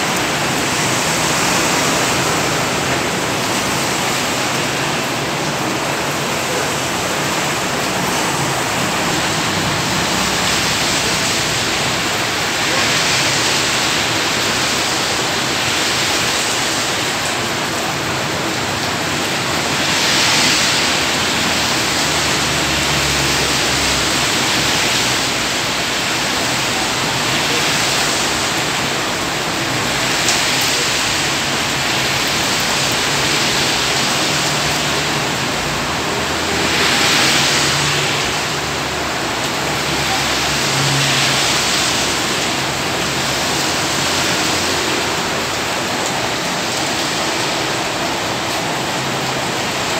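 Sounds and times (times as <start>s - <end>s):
heavy rain hissing: 0.0s - 49.9s.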